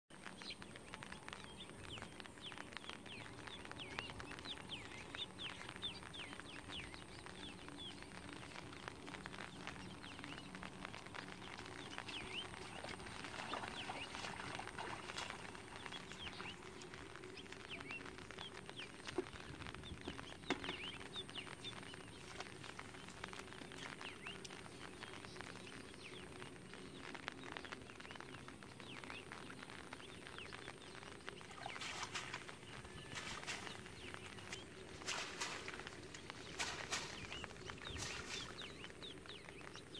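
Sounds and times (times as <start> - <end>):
steady faint hiss: 0.2 - 39.9.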